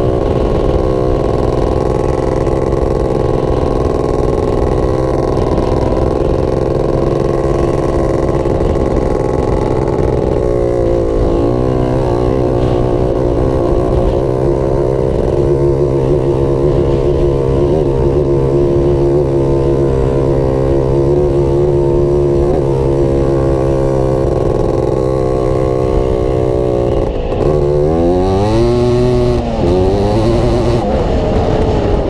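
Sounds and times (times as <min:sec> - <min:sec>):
off-road vehicle engine: 0:00.0 - 0:32.0.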